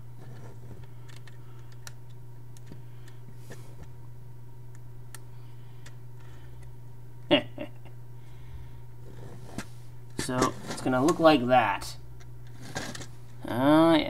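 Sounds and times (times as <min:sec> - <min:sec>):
low hum: 0:00.0 - 0:13.7.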